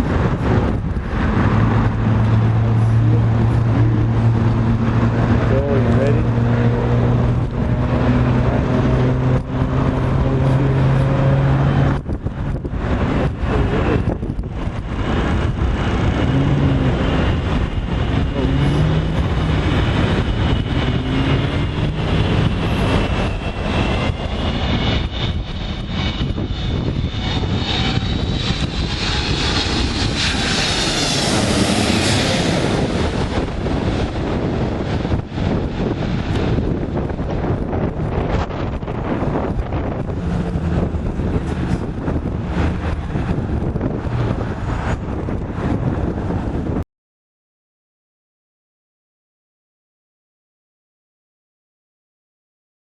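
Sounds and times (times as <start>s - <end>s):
jet plane passing overhead: 0.0s - 46.8s.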